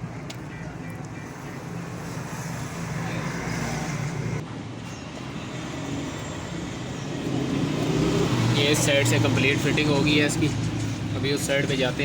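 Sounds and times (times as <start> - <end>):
background traffic noise: 0.0 - 12.0.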